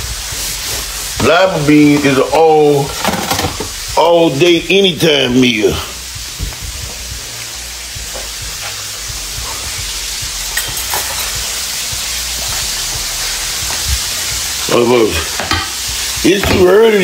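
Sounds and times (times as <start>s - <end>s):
food frying sizzle: 0.0s - 17.0s.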